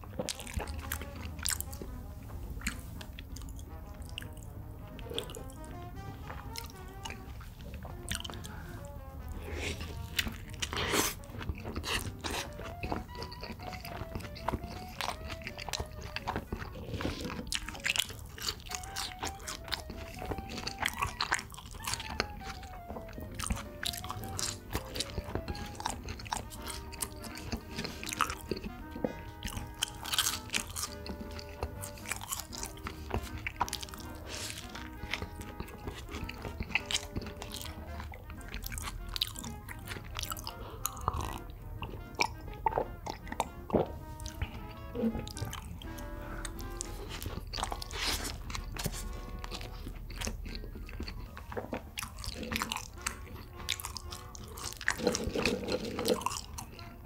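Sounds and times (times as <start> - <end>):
crunchy bites and chewing: 0.0 - 57.0
light background music: 0.0 - 57.0.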